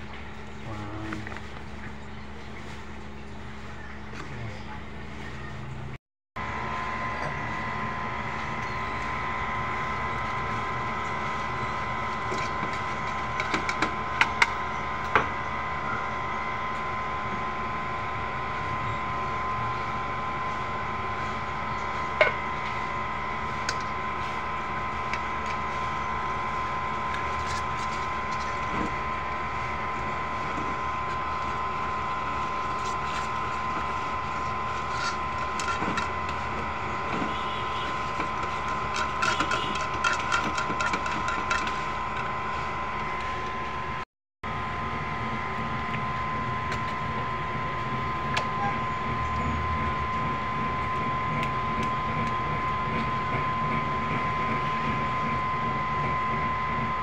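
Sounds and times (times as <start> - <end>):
electric hand mixer running: 6.4 - 57.0.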